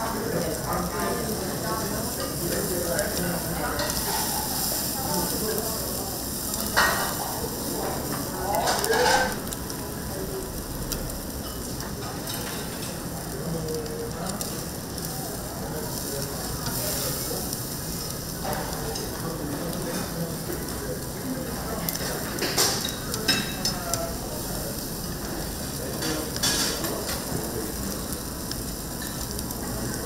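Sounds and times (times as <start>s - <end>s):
ribs sizzling on a grill: 0.0s - 30.0s.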